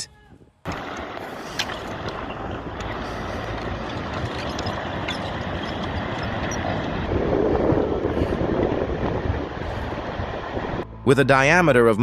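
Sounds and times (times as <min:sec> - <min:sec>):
storm waves breaking: 0:00.7 - 0:10.8.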